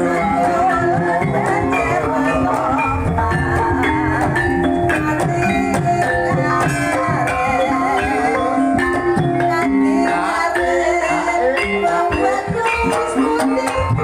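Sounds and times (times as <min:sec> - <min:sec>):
ensemble of struck and plucked instruments: 0:00.0 - 0:14.0
person singing with wavering voice: 0:00.0 - 0:14.0.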